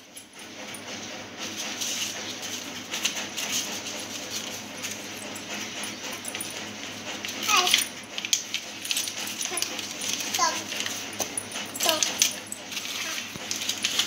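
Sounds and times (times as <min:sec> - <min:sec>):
paper banknotes rustling: 0:01.4 - 0:14.0.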